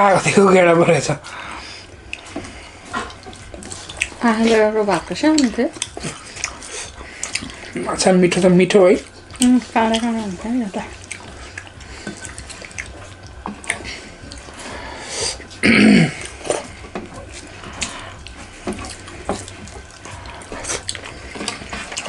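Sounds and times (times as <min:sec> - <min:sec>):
fingers mixing wet food: 0:00.0 - 0:22.0
chewing and lip smacks: 0:01.9 - 0:22.0.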